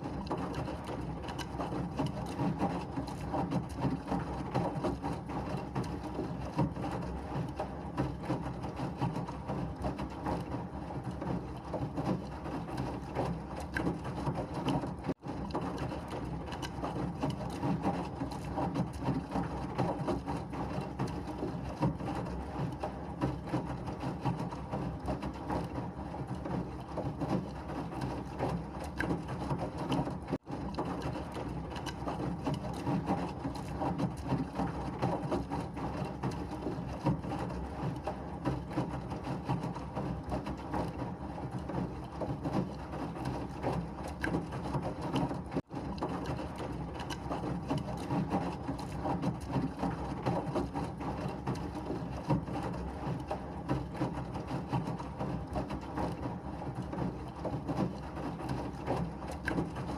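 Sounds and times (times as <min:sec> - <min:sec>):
washing machine churning: 0:00.0 - 0:59.9.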